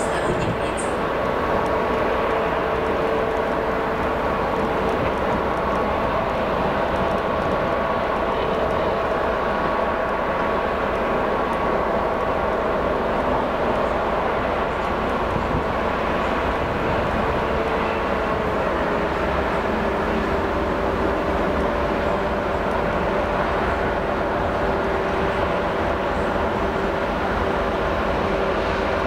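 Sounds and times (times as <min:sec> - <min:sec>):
diesel locomotive drone: 0:00.0 - 0:29.0
locomotive whine: 0:00.0 - 0:29.0.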